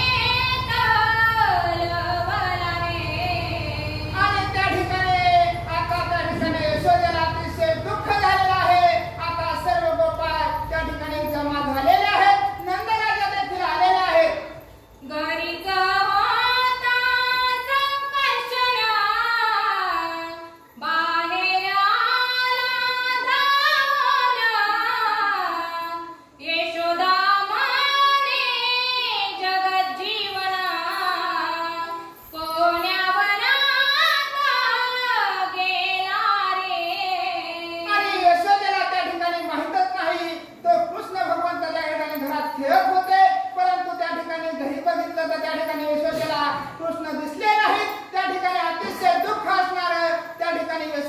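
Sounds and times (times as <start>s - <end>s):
woman singing: 0.0s - 51.0s.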